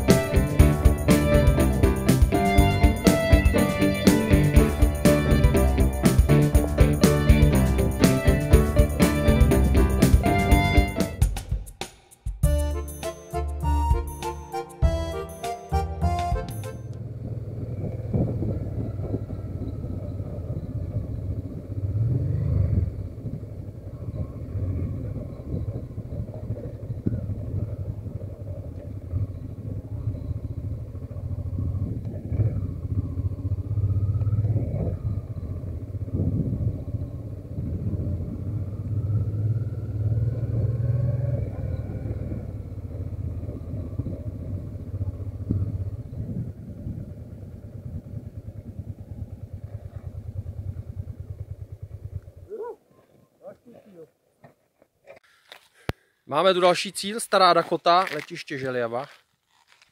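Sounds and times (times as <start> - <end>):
motorcycle engine running: 0.0 - 12.9, 14.8 - 52.8.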